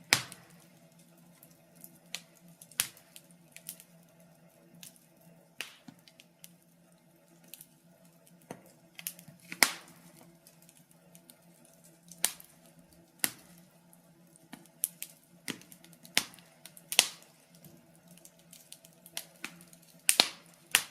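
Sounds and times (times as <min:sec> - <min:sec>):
wood fire crackling and popping: 0:00.0 - 0:20.9.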